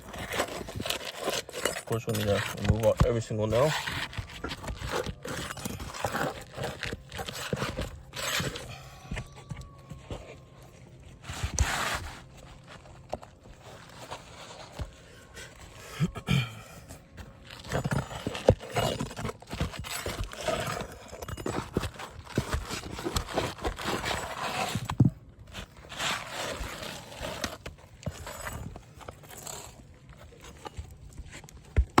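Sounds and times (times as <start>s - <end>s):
pry bar scraping under shingles: 0.0s - 32.0s.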